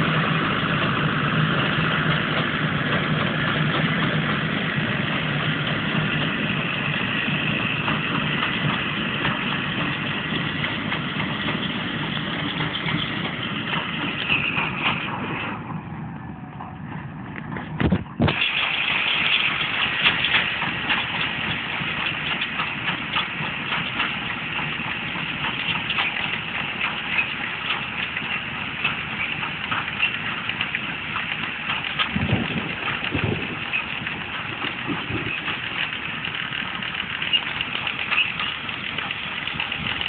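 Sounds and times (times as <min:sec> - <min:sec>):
rapid clicking of baler mechanism: 0:00.0 - 0:15.8, 0:17.0 - 0:40.0
tractor engine running: 0:00.0 - 0:40.0.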